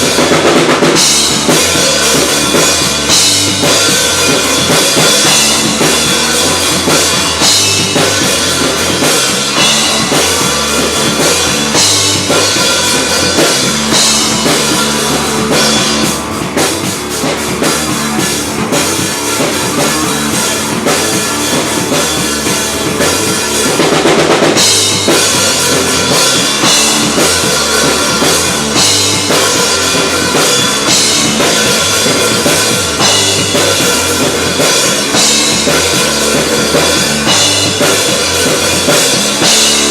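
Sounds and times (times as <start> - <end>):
bass drum and snare: 0.0 - 39.9
live band playing loud music: 0.0 - 39.9.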